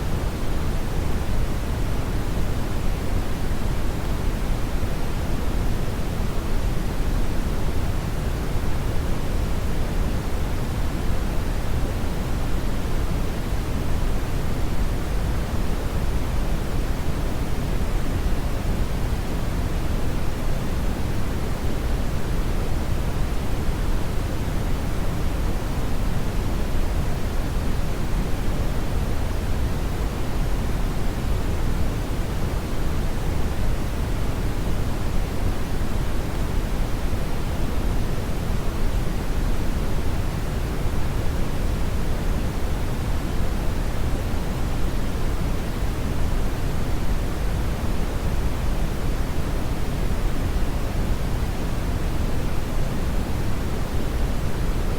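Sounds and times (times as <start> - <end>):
brown noise hiss: 0.0 - 54.9.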